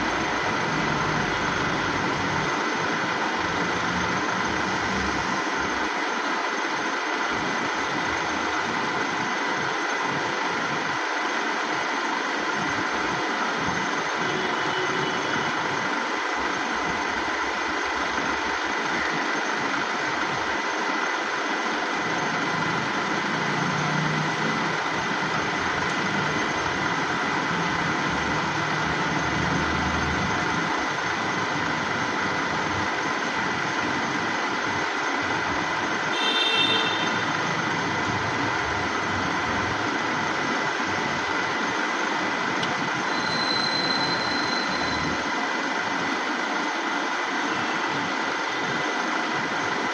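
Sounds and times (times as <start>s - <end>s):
mechanical hiss with high whine: 0.0s - 49.9s.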